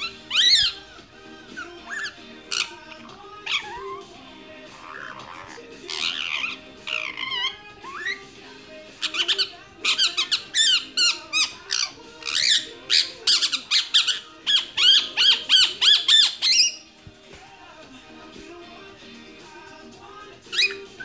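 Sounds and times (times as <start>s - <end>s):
parakeet chirping and whistling: 0.0s - 17.0s, 20.2s - 21.0s.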